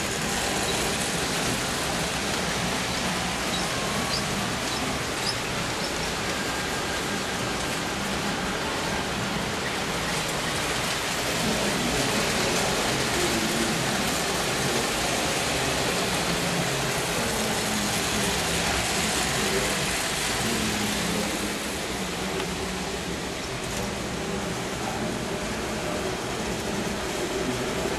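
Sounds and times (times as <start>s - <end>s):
model trains rumbling on metal track: 0.0s - 27.9s.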